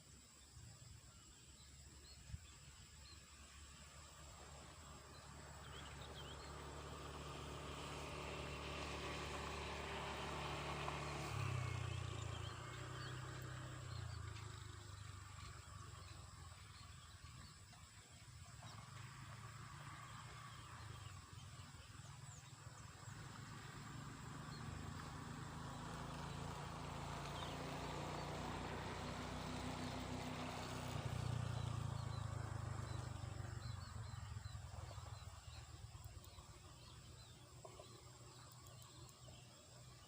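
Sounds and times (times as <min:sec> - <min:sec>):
distant vehicle engine hum: 0:00.0 - 0:40.0
faint bird or insect chirps: 0:00.0 - 0:40.0.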